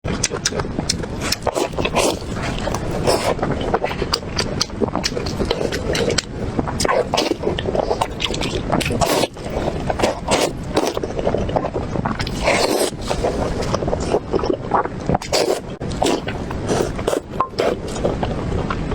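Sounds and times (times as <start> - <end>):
person chewing wetly: 0.1 - 18.9.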